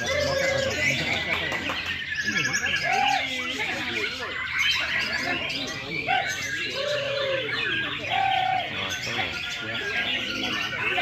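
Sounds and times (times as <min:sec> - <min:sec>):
bird singing chirps and whistles: 0:00.0 - 0:11.0
songbird chorus: 0:00.0 - 0:11.0.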